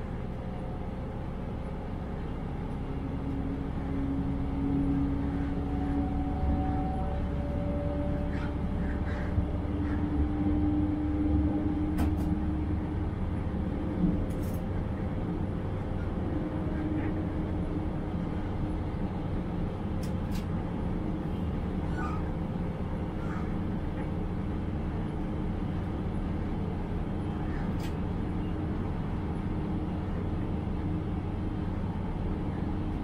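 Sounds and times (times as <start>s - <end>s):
engine hum: 0.0s - 33.0s
train wheels rumbling on rails: 0.0s - 33.0s.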